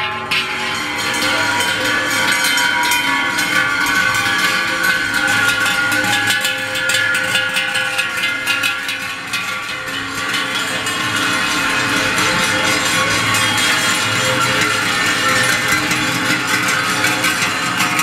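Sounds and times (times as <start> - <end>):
cowbells clanging: 0.0 - 18.0.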